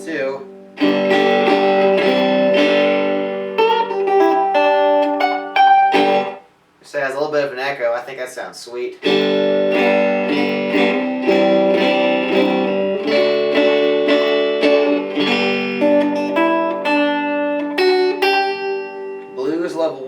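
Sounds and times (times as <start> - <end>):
electric banjo chords and notes: 0.0 - 6.5, 9.0 - 20.0.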